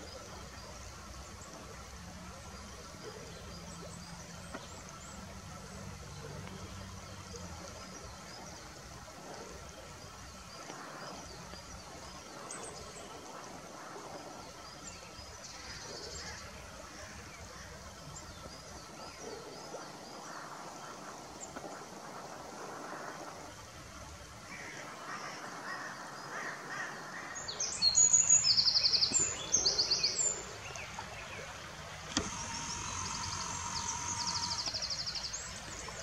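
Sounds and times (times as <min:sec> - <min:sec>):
soft water splashing: 0:00.1 - 0:36.0.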